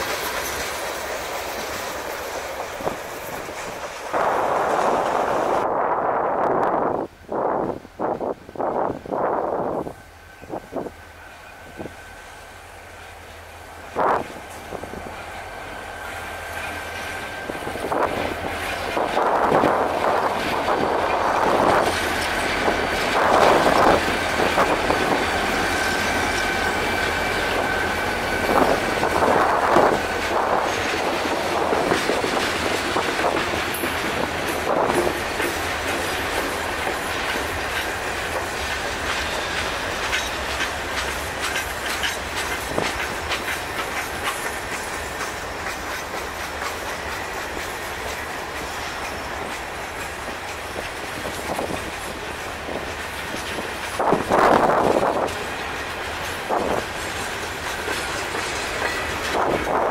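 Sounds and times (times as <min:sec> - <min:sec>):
train wheels clicking over rail joints: 0:00.0 - 0:05.6, 0:10.4 - 0:59.9
diesel locomotives passing: 0:00.0 - 0:59.9.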